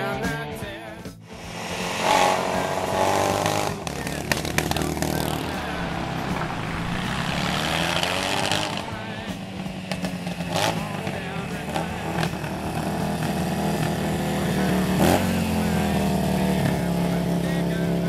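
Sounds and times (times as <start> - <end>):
motorcycle engine running: 1.1 - 18.0.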